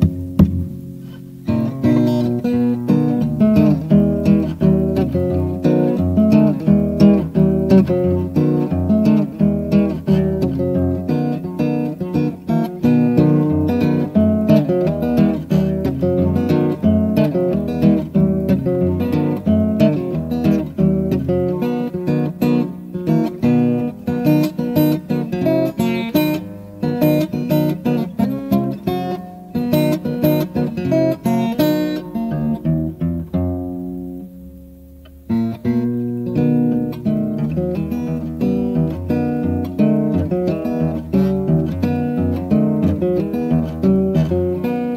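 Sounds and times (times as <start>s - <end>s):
instrumental guitar music: 0.0s - 44.9s.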